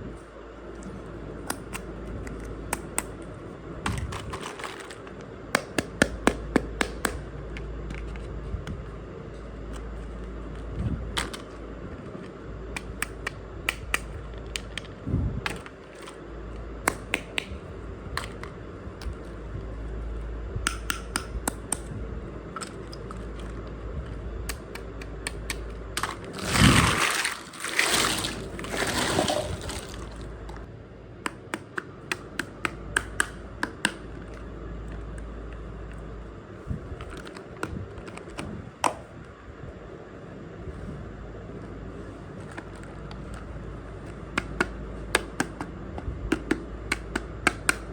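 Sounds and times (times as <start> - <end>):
low steady hum: 0.0 - 47.9.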